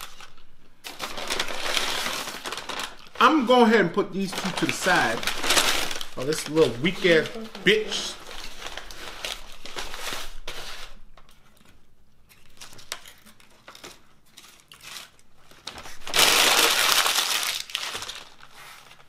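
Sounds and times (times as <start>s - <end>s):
paper bag rustling and crinkling: 0.0s - 11.7s, 12.3s - 19.0s.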